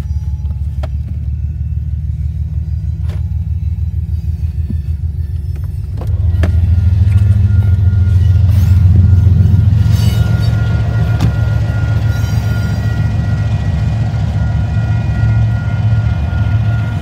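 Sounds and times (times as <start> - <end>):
diesel locomotive rumbling past: 0.0 - 17.0.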